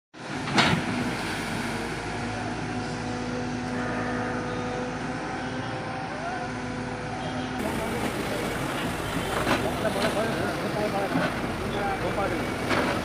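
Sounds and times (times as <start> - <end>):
diesel engine running: 0.2 - 13.0.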